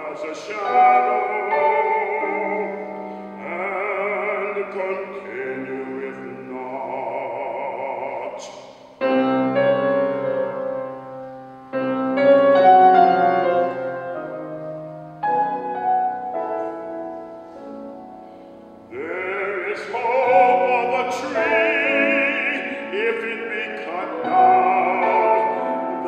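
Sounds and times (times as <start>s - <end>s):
man singing classical song: 0.0s - 26.0s
piano playing slow chords: 0.0s - 26.0s.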